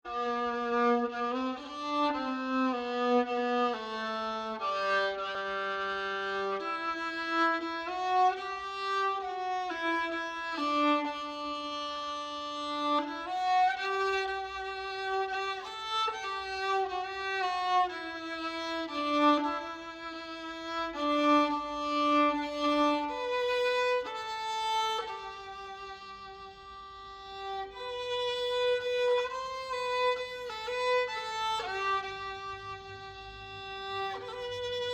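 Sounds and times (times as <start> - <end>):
solo violin slow melody: 0.0 - 34.9.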